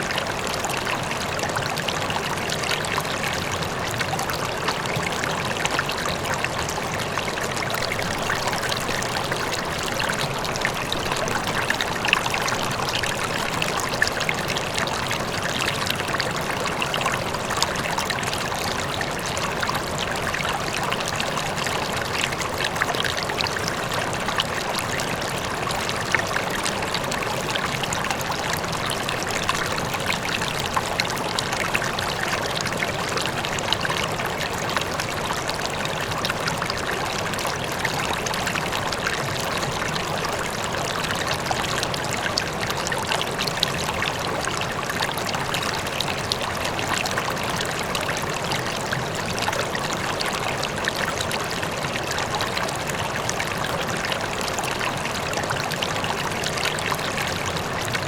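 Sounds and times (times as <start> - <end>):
distant waterfall: 0.0 - 58.0
river water flowing and splashing: 0.0 - 58.0.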